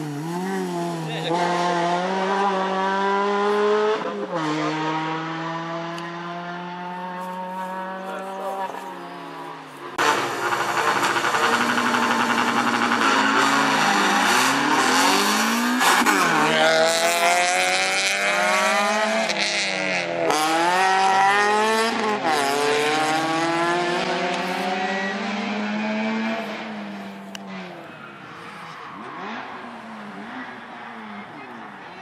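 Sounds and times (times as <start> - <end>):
rally car engine revving: 0.0 - 9.2, 9.9 - 32.0.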